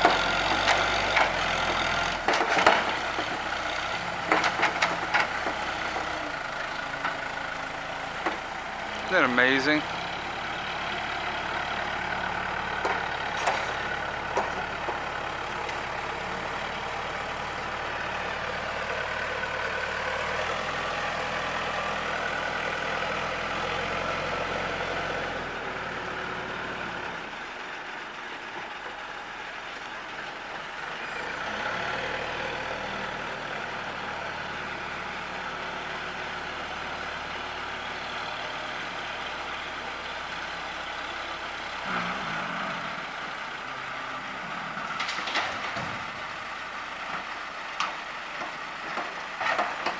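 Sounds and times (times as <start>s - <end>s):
heavy machinery diesel engine: 0.0s - 49.9s.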